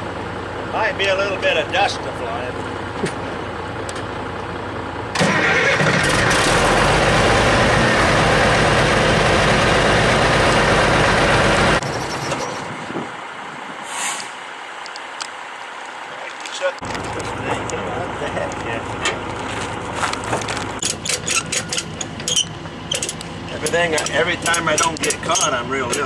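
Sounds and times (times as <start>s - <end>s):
diesel engine idling: 0.0s - 13.8s, 16.8s - 26.0s.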